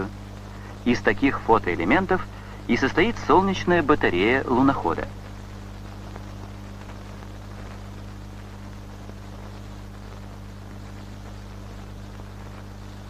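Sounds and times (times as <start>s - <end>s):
film soundtrack hiss: 0.0s - 13.0s
low hum: 0.0s - 13.0s.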